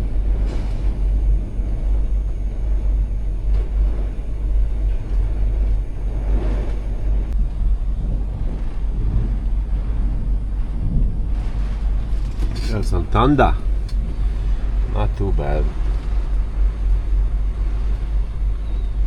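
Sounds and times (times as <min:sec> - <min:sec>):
thunder rumbling: 0:00.0 - 0:19.0.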